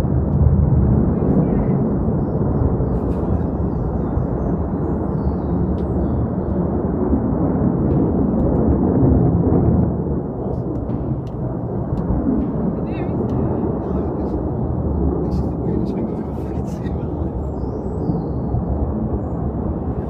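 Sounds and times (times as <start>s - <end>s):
deep rumble from sky: 0.0s - 20.0s.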